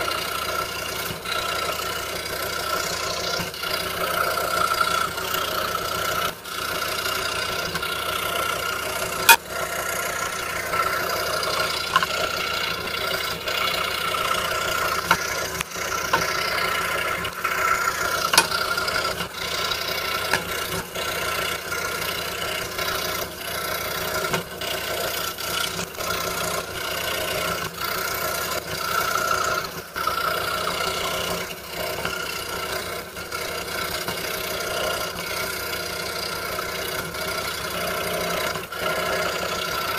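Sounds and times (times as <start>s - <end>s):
scroll saw humming: 0.0s - 39.9s.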